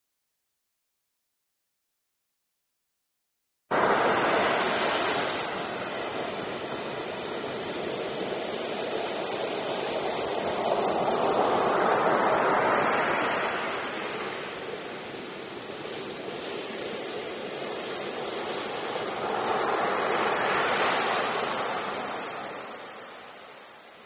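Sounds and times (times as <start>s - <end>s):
surf breaking on beach: 3.7s - 24.0s.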